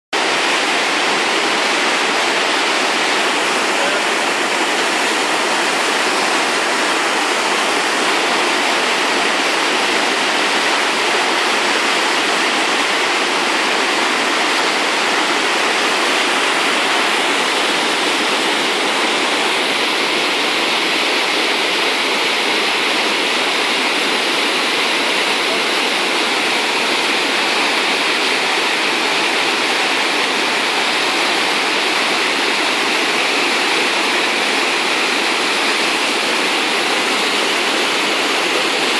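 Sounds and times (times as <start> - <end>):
water rushing over weir: 0.2 - 38.9.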